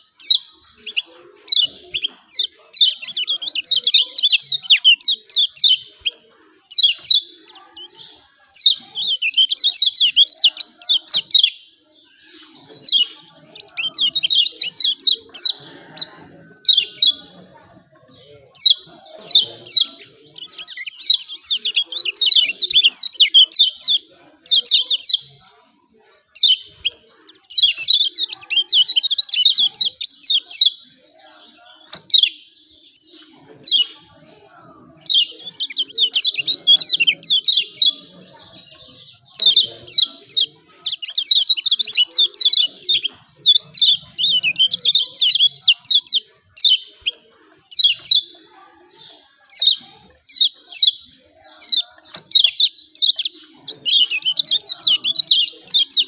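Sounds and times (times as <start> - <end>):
bird chattering with high chirps: 0.0 - 56.0.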